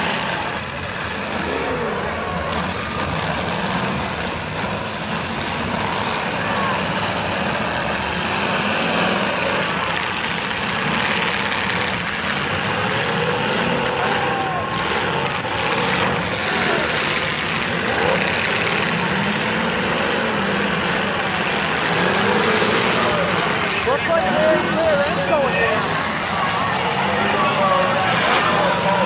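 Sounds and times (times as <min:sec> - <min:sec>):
car engines revving: 0:00.0 - 0:29.0
crowd shouting and cheering: 0:00.0 - 0:29.0.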